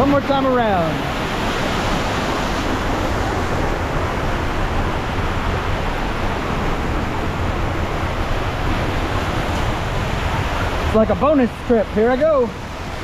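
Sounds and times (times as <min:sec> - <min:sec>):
water rushing and swirling: 0:00.0 - 0:13.0.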